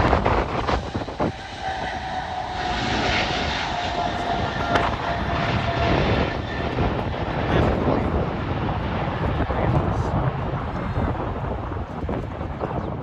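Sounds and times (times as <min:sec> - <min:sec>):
aircraft engines whining: 0:00.0 - 0:13.0
wind buffeting microphone: 0:00.0 - 0:13.0.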